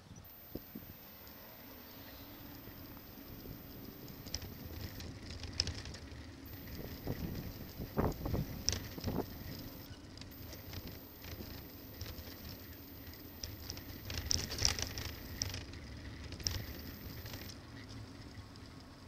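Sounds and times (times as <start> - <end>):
bicycle rattles and clicks: 0.0 - 19.0
wind and road rumble: 0.0 - 19.0.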